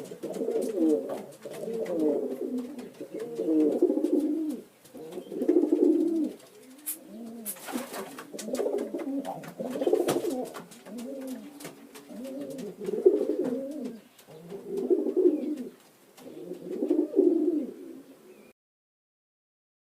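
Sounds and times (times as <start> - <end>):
pigeons cooing: 0.0 - 18.5.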